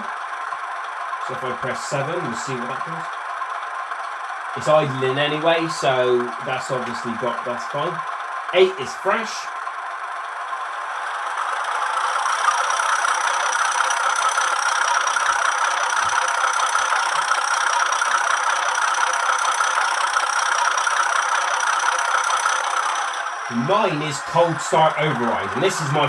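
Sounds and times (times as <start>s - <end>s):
diesel sound effect through small speaker: 0.0s - 26.0s.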